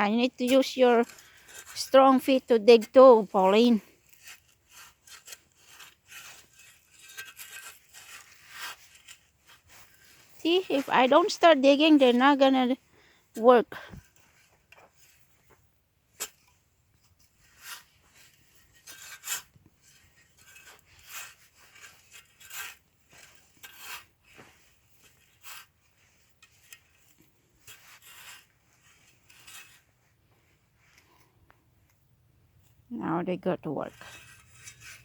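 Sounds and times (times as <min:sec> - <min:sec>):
digging tool scraping soil: 0:00.0 - 0:32.0, 0:33.6 - 0:35.0.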